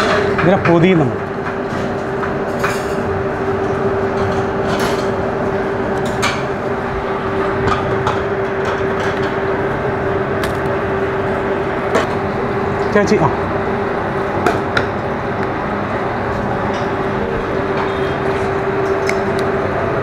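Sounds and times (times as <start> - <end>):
kitchen machinery drone: 0.0 - 20.0.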